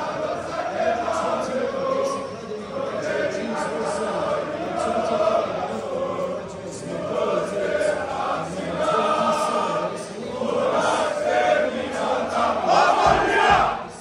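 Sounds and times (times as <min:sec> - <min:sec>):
crowd singing a chant: 0:00.0 - 0:14.0.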